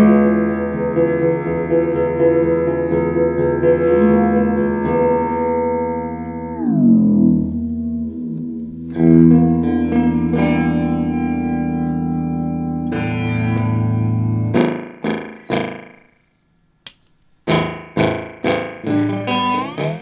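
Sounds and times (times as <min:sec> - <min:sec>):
electric guitar chords with chorus: 0:00.0 - 0:16.2, 0:17.5 - 0:20.0.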